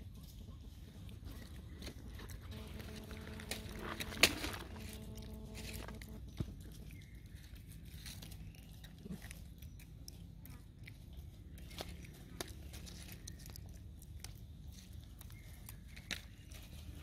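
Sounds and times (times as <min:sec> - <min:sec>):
dry leaves crackling and rustling: 0:00.0 - 0:17.0
steady multi-tone hum: 0:00.0 - 0:17.0.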